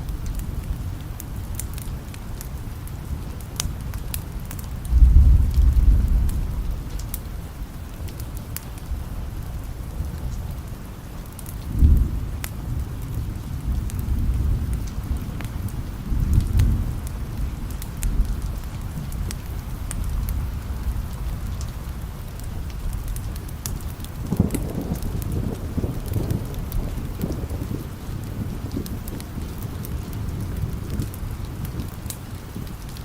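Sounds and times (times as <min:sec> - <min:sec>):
low rolling thunder: 0:00.0 - 0:10.7, 0:11.5 - 0:33.0
steady rain: 0:00.0 - 0:33.0.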